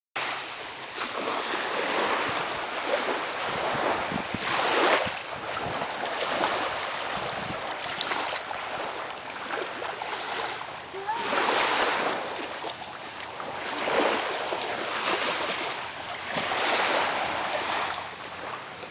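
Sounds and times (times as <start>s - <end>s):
waves washing onto a beach: 0.2s - 18.9s
wind on microphone: 0.6s - 18.9s.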